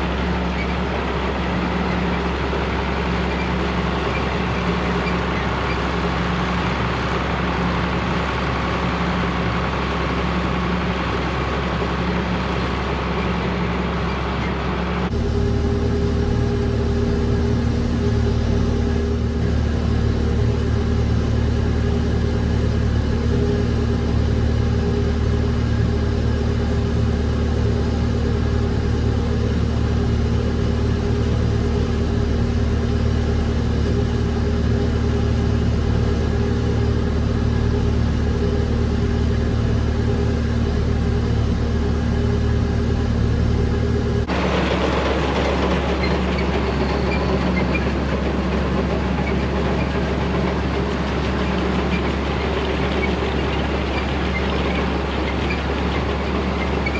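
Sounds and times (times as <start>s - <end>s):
tractor engine running under load: 0.0s - 56.9s.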